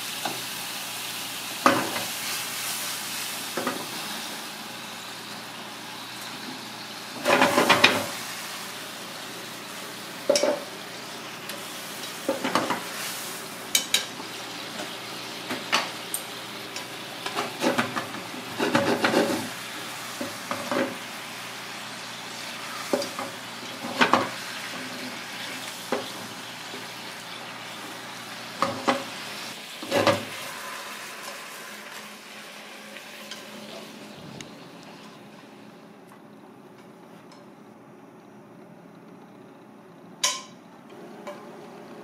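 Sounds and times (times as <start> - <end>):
fish sizzling in a pan: 0.0 - 35.0.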